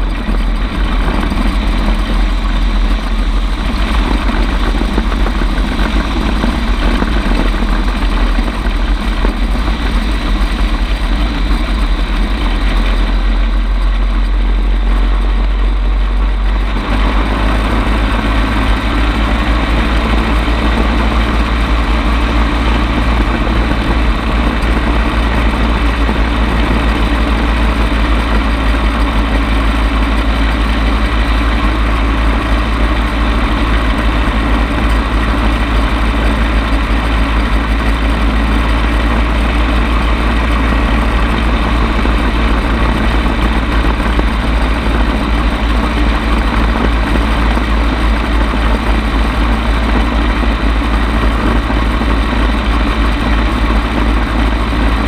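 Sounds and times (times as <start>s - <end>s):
gyrocopter engine running loud: 0.0s - 55.0s.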